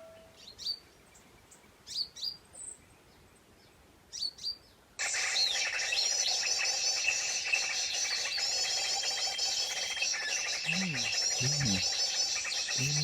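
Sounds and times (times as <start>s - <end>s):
small bird chirping: 0.0s - 2.9s, 4.1s - 13.0s.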